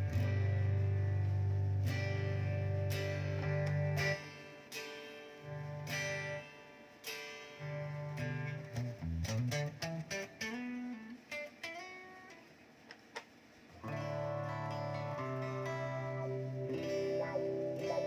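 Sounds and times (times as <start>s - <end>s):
electric guitar clean tone: 0.0s - 12.5s, 13.7s - 18.0s.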